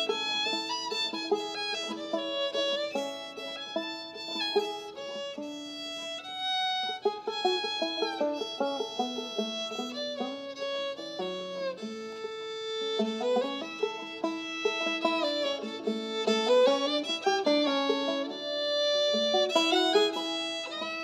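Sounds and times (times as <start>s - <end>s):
banjo picking: 0.0s - 21.0s
fiddle playing melody: 0.0s - 21.0s.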